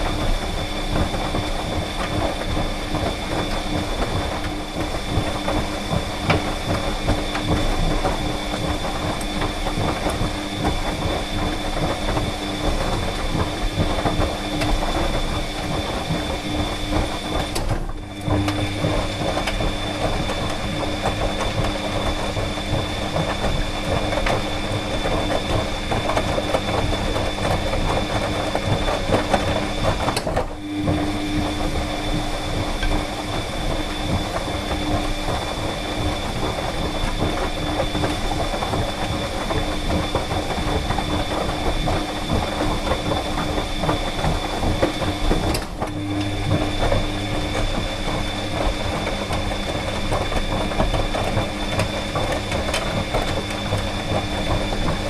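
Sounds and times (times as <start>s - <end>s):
clothes dryer running: 0.0s - 55.0s.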